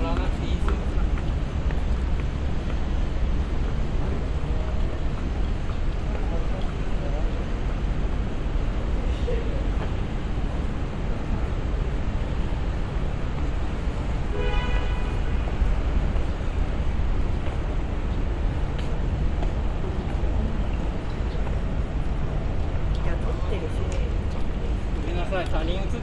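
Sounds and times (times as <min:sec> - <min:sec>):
low city rumble: 0:00.0 - 0:26.0.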